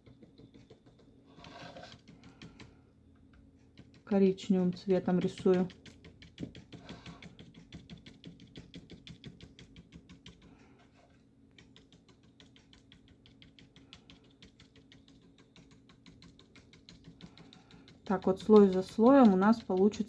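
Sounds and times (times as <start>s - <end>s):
paintbrush dabbing on paper: 0.0s - 2.8s, 3.6s - 20.0s.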